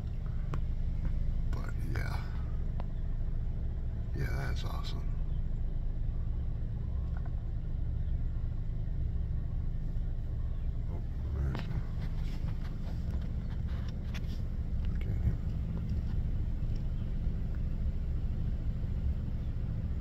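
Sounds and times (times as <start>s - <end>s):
car engine rumble inside cabin: 0.0s - 20.0s.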